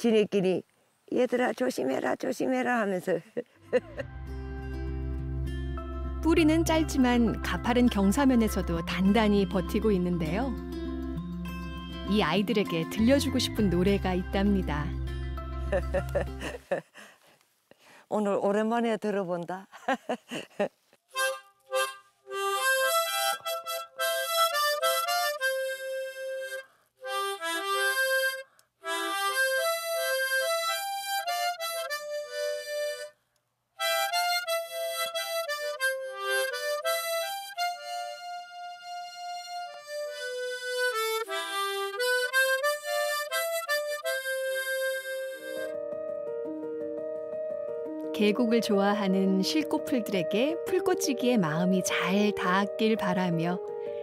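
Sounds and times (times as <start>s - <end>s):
harmonica playing slow melody: 3.7s - 16.6s, 21.1s - 33.2s, 33.8s - 54.0s.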